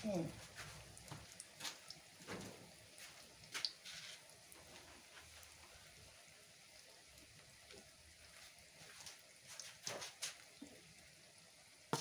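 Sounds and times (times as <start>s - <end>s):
hot oil sizzling: 0.0s - 12.0s
sharp crackles of oil: 0.0s - 12.0s.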